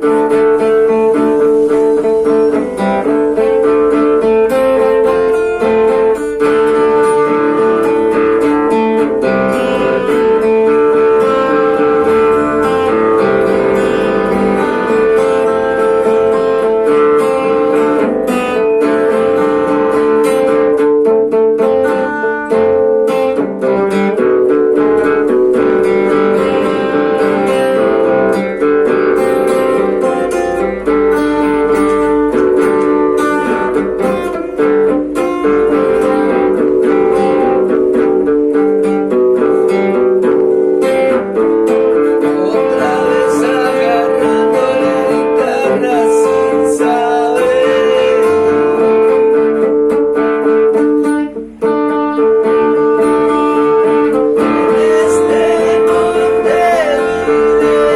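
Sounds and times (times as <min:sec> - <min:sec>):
plucked guitar music: 0:00.0 - 0:57.9.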